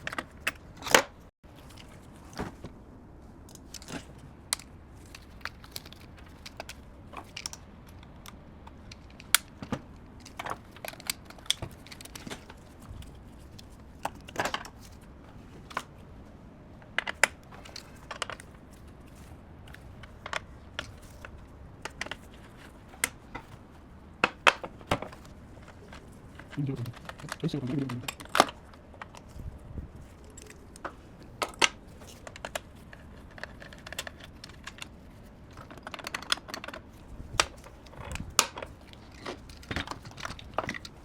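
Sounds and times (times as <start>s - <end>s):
faint steady background noise: 0.0s - 41.0s.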